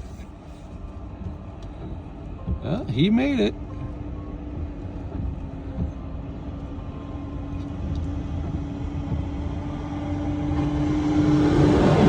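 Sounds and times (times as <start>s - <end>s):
car engine rumble from cabin: 0.0s - 12.0s.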